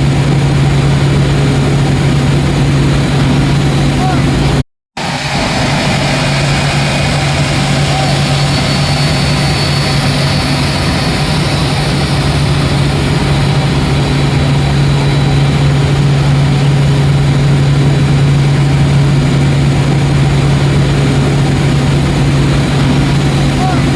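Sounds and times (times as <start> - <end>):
jet engines droning: 0.0 - 23.9.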